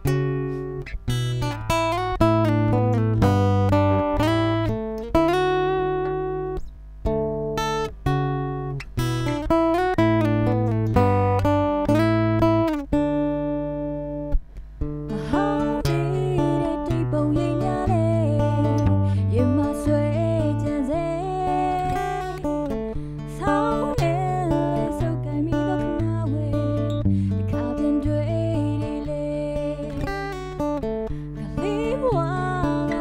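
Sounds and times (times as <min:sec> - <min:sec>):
plucked guitar notes and chords: 0:00.0 - 0:33.0.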